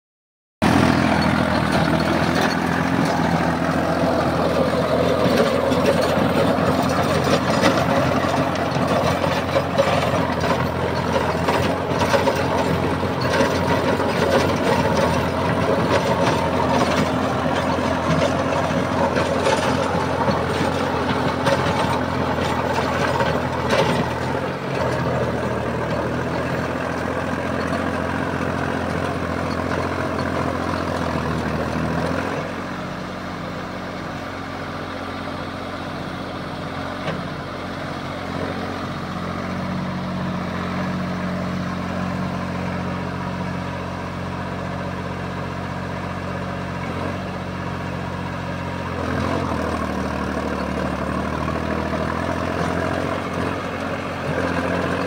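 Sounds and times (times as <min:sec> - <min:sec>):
tractor diesel engine running: 0:00.6 - 0:55.0.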